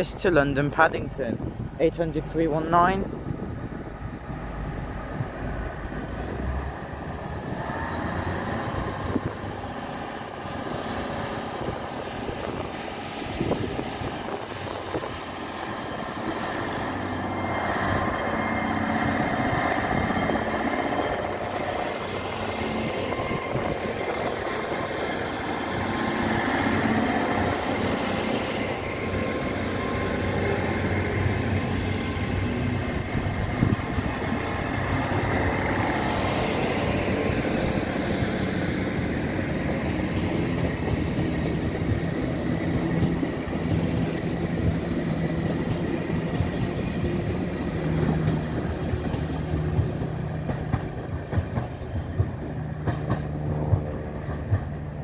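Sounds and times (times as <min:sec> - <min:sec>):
diesel train engines running: 0:00.0 - 0:55.0.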